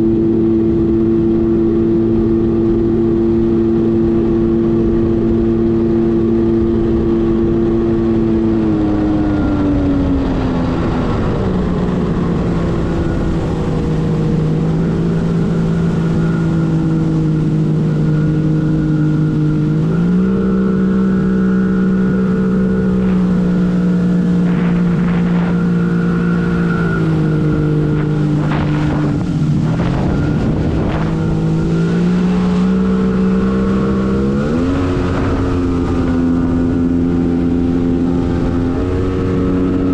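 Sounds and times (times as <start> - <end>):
water splashing: 0.0 - 39.9
watercraft engine running: 0.0 - 39.9.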